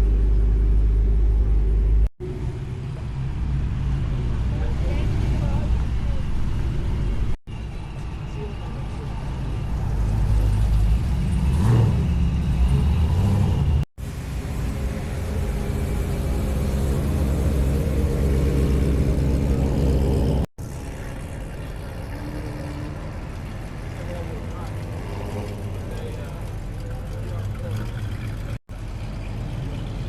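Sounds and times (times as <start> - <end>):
vehicle engine rumbling and revving: 0.0 - 30.0.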